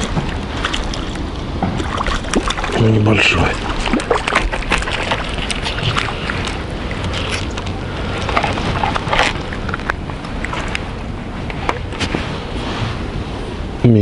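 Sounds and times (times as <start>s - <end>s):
fish splashing in water: 0.0s - 12.5s.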